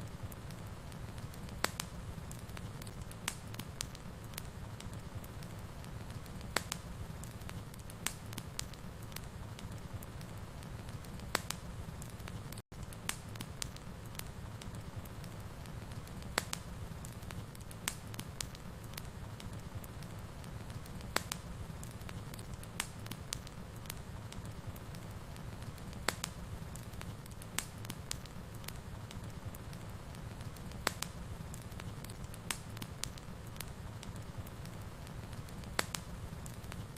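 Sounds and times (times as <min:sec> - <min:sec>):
fire rumbling in a fireplace: 0:00.0 - 0:36.9
wood crackling and popping: 0:00.0 - 0:36.9.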